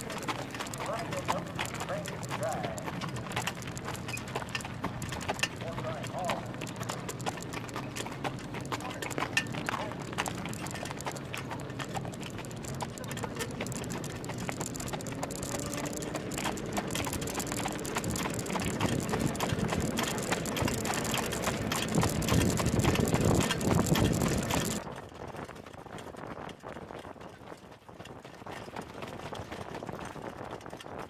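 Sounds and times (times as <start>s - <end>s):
cart frame and wheels rattling: 0.0s - 31.0s
horse hooves on dirt: 0.0s - 31.0s.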